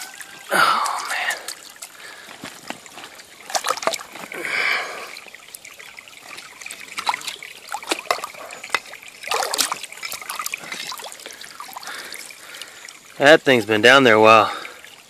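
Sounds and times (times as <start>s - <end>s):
creek water splashing and trickling: 0.0s - 15.0s.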